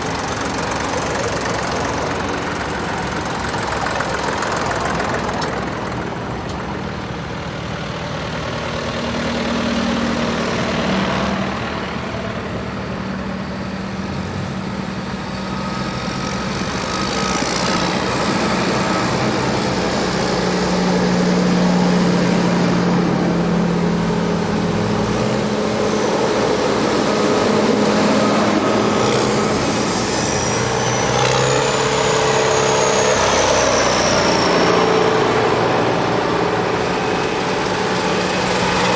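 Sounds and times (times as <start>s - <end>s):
tractors passing by: 0.0s - 38.9s.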